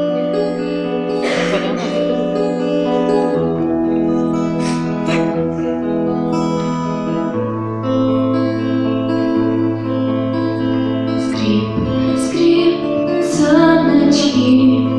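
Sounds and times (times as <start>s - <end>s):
guitar chords: 0.0s - 14.9s.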